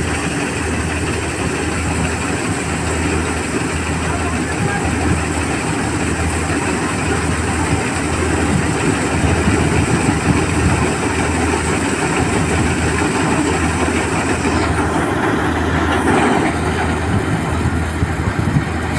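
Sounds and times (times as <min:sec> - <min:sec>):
combine harvester engine and machinery: 0:00.0 - 0:18.9
grain pouring from auger: 0:00.0 - 0:18.9.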